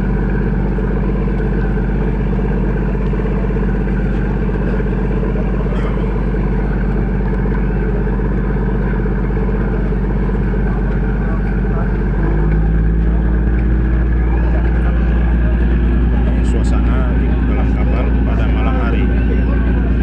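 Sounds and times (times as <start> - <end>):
ship engine droning: 0.0 - 20.0.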